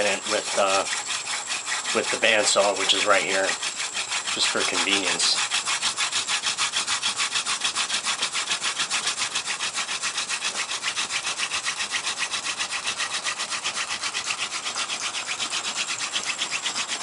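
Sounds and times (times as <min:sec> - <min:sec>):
hand drill spindle rasping: 0:00.0 - 0:17.0.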